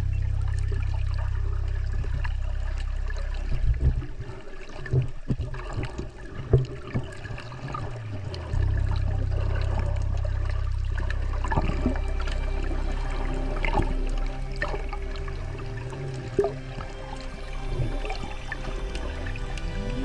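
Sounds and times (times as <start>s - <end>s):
steady low hum: 0.0s - 5.4s, 7.7s - 20.0s
water sloshing and bubbling: 0.0s - 20.0s
clicks and gurgles: 0.4s - 20.0s.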